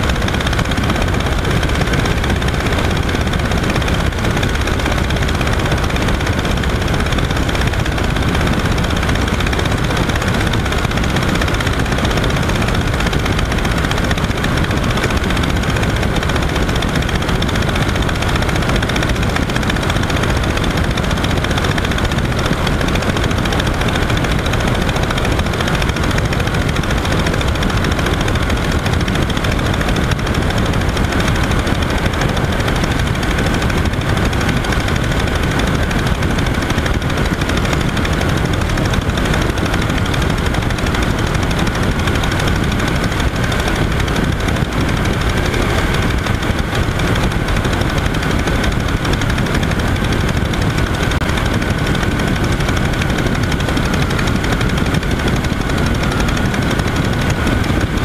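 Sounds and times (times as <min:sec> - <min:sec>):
aircraft engine and propeller running: 0:00.0 - 0:58.0
wind rushing over microphone: 0:00.0 - 0:58.0.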